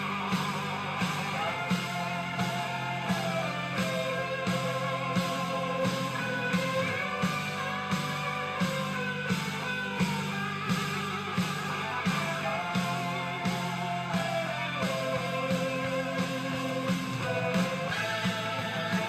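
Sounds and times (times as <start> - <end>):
guitar melody over a beat: 0.0 - 19.0.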